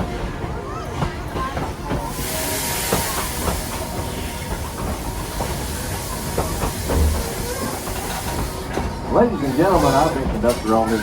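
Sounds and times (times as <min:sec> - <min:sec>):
steam locomotive hissing: 0:00.0 - 0:11.0
train knocks and clanks: 0:00.0 - 0:11.0.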